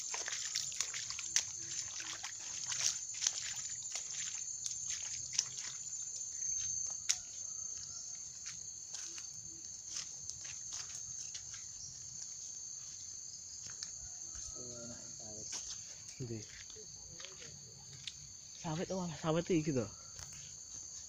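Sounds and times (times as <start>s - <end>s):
footsteps in undergrowth: 0.0s - 21.0s
insects chorus: 0.0s - 21.0s.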